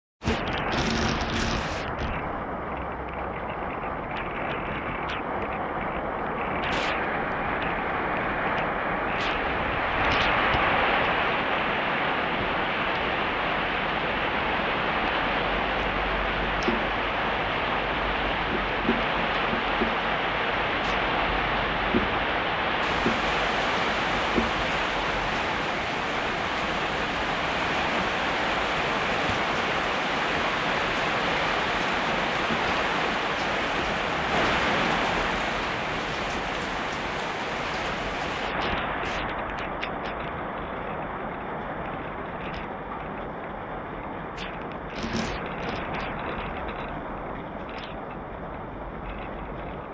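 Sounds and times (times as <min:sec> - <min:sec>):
heavy rain falling: 0:00.2 - 0:49.9.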